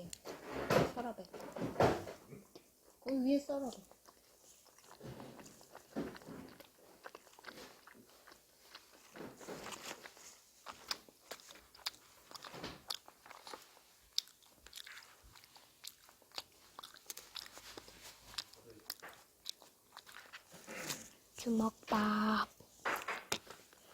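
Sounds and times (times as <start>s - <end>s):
person chewing crunchy food: 2.2s - 23.9s.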